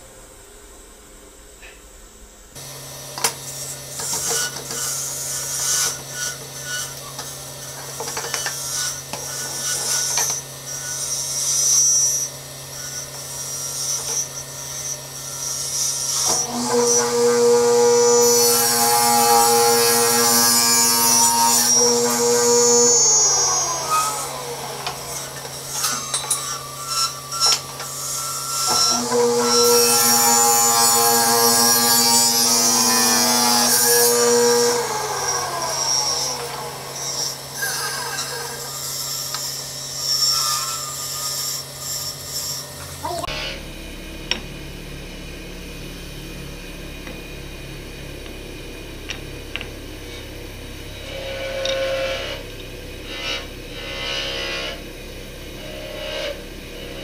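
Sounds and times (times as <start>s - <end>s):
saw blade whining through wood: 2.6s - 57.0s
table saw motor hum: 2.6s - 57.0s.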